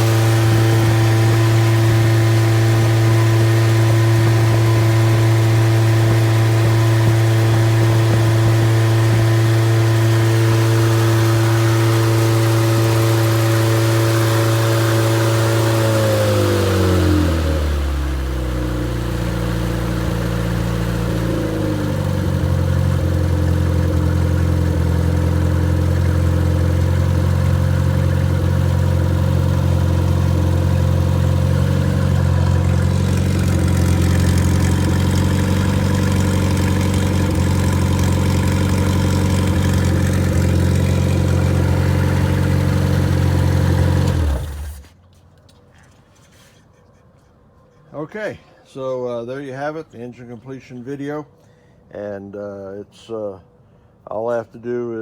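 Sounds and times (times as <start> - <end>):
car engine running without muffler: 0.0 - 44.9.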